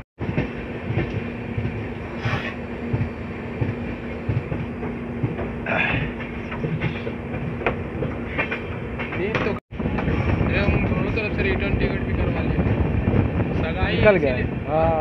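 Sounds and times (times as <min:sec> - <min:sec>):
train wheels clattering on rails: 0:00.2 - 0:14.6.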